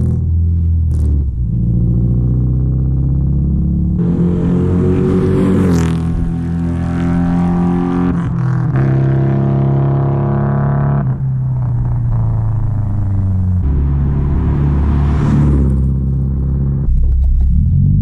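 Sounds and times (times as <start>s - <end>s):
car engine exhaust note: 0.0s - 18.0s.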